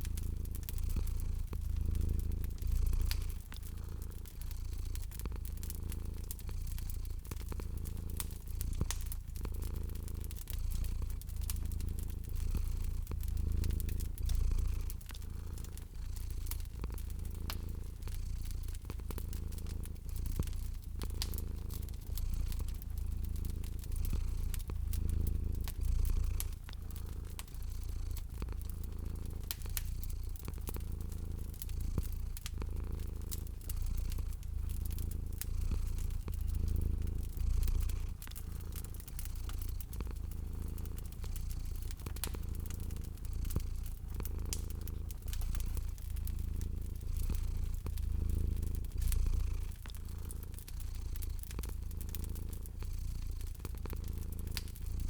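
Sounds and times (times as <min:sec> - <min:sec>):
cat purring: 0:00.0 - 0:55.0
wood fire crackling: 0:00.0 - 0:55.0.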